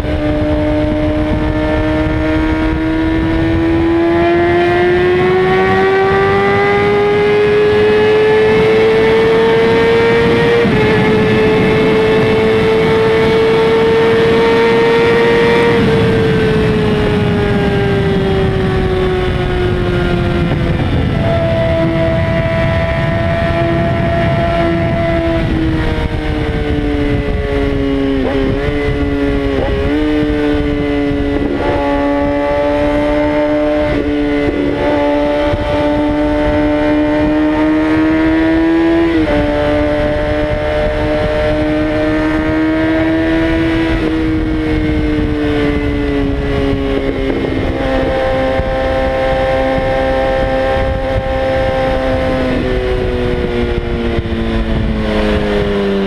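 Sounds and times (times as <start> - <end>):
motorcycle engine at high revs: 0.0 - 56.0
wind noise: 0.0 - 56.0.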